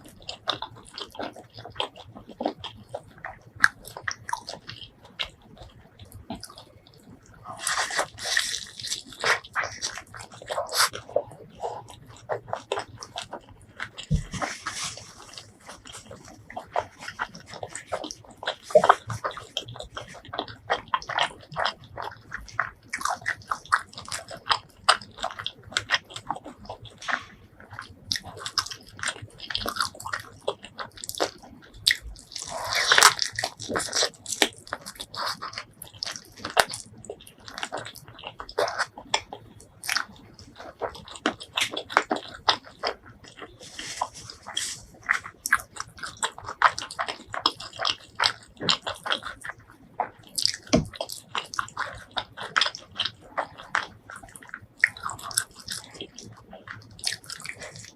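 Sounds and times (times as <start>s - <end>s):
person chewing with mouth smacks: 0.0s - 57.9s.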